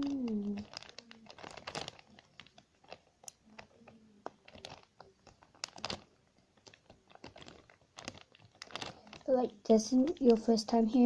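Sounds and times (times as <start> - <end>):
slime squishing and popping: 0.0 - 10.5.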